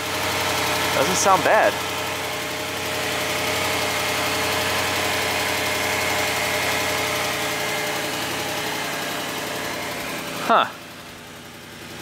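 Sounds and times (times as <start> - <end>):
car engine idling with tick: 0.0 - 12.0.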